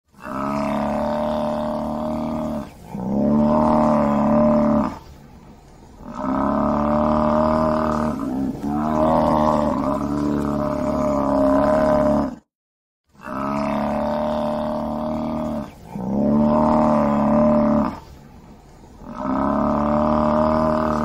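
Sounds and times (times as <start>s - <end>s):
buffalo bellowing: 0.1s - 5.2s, 6.0s - 12.4s, 13.2s - 21.0s.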